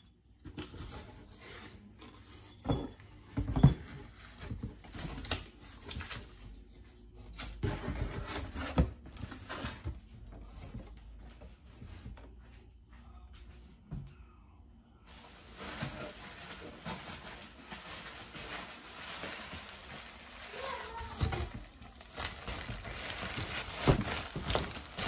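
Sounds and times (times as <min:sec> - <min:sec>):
paper and cardboard rustling: 0:00.4 - 0:12.4, 0:15.1 - 0:25.0.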